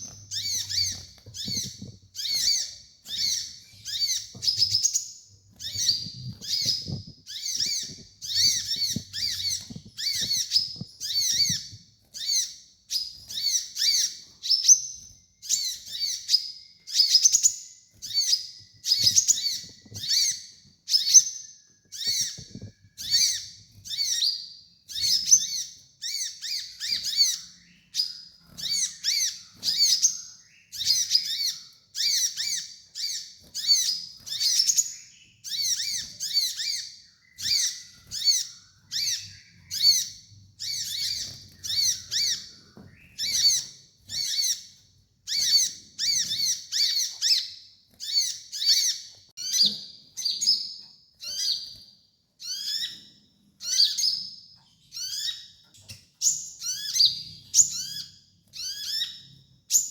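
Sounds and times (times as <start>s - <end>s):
sunbird twittering song: 0.0s - 59.9s.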